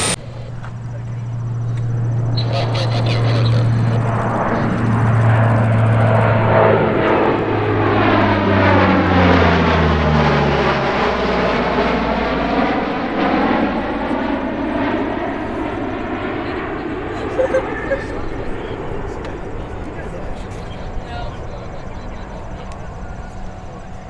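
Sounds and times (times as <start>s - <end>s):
propeller aircraft drone: 0.0s - 24.0s.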